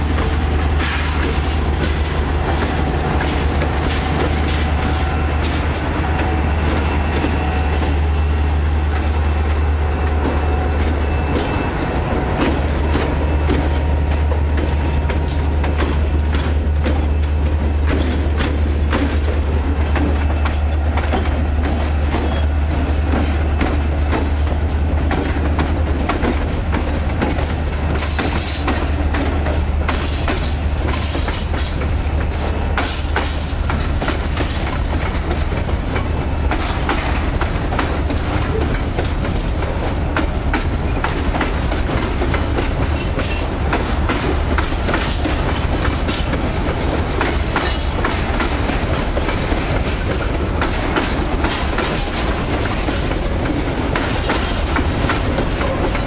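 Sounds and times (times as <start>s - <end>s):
wheels clicking over rail joints: 0.0s - 8.2s, 8.8s - 56.0s
diesel locomotives humming: 0.0s - 56.0s.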